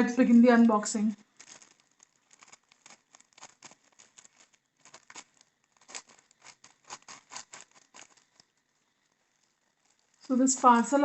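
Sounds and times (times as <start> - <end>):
sharp crackles: 0.6 - 11.0
packaging crinkling and tearing: 1.2 - 11.0.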